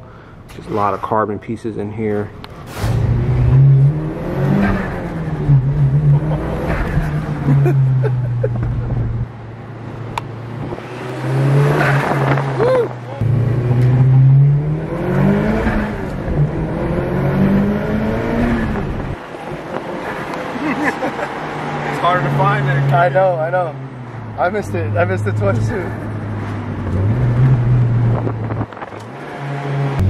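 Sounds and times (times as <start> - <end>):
car engine under load: 2.2 - 30.0.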